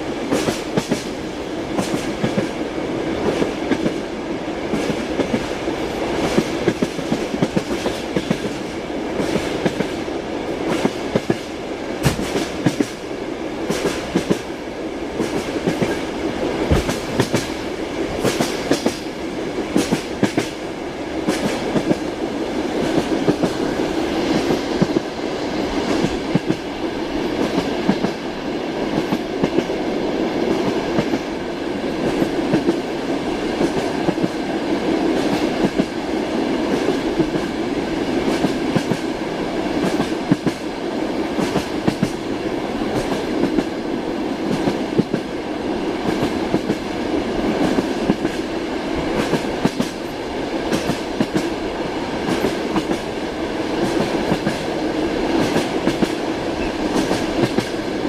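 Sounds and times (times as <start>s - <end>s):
train rolling rumble: 0.0s - 58.0s
train wheels clickety-clack: 0.0s - 58.0s.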